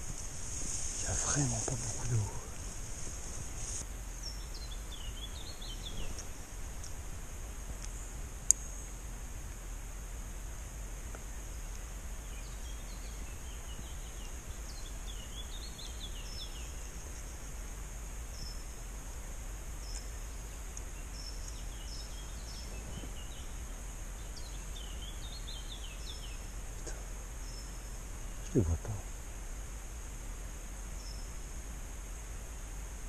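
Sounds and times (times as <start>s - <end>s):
songbird chirping: 0.0s - 9.8s, 10.9s - 32.6s
steady outdoor hiss: 0.0s - 33.0s.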